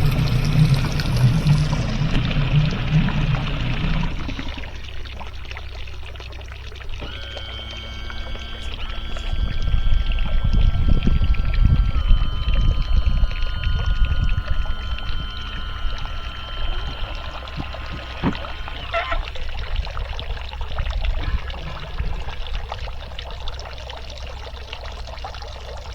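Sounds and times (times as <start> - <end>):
electric tilt motor whining: 0.0 - 25.9
water pouring and dripping: 0.0 - 25.9.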